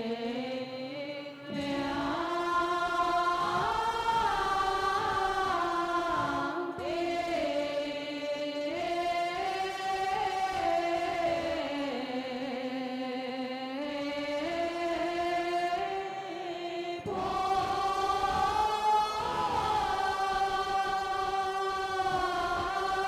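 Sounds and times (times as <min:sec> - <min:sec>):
choir chanting in unison: 0:00.0 - 0:23.0.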